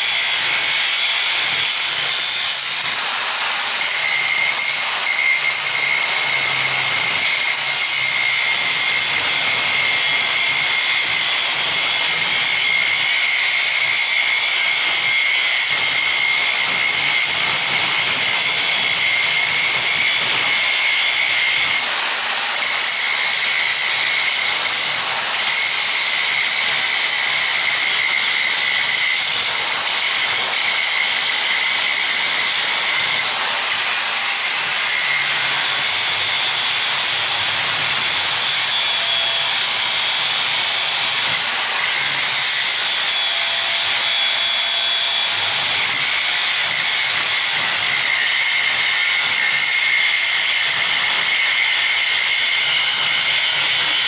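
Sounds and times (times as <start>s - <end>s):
angle grinder grinding steel: 0.0s - 54.0s.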